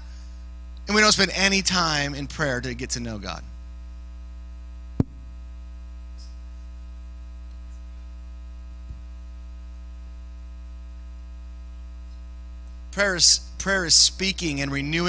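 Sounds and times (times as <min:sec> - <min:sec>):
buzzy mains hum: 0:00.0 - 0:15.0.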